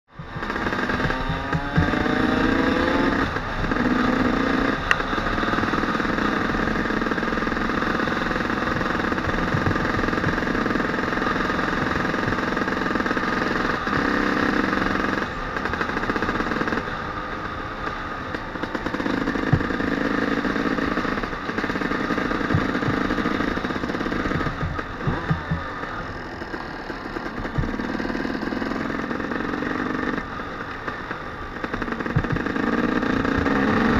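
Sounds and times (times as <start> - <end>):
two-stroke motorcycle engine revving: 0.1 - 33.9.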